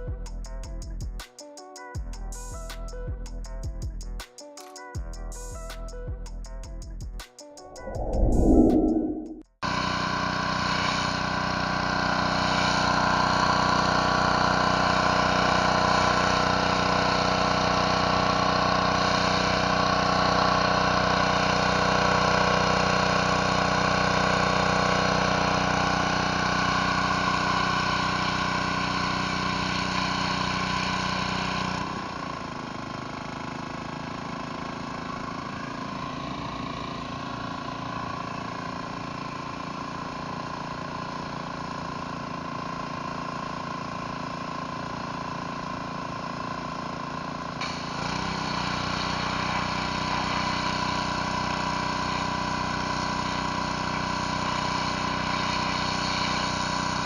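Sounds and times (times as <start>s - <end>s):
pressure washer engine running: 10.8s - 57.0s.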